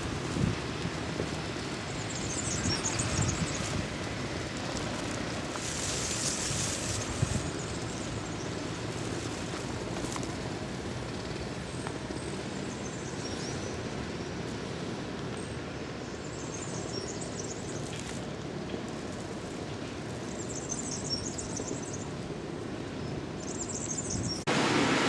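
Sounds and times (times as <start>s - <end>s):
distant traffic hum: 0.0s - 25.0s.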